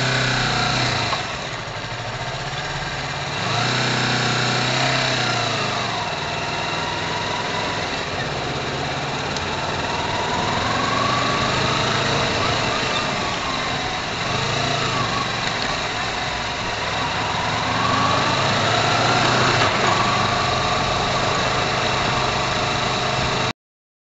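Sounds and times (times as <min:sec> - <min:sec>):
road and wind noise: 0:00.0 - 0:23.5
scooter engine running: 0:00.0 - 0:23.5.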